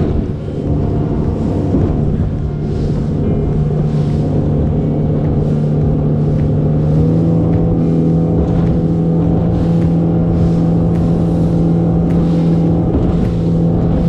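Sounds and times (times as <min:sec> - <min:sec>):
boat engine droning: 0:00.0 - 0:14.0
water rushing along hull: 0:00.0 - 0:14.0.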